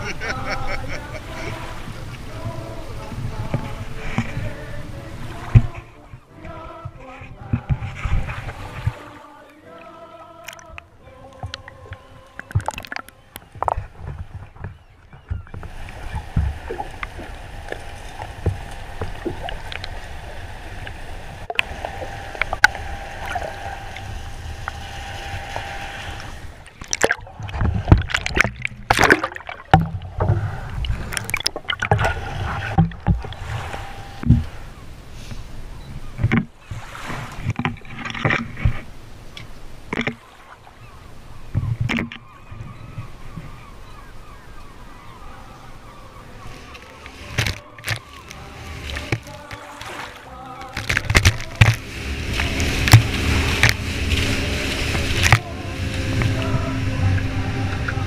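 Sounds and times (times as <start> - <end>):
faint hum: 0.0 - 36.1, 42.2 - 58.0
muffled underwater sloshing: 0.0 - 58.0
water splashes: 0.0 - 58.0.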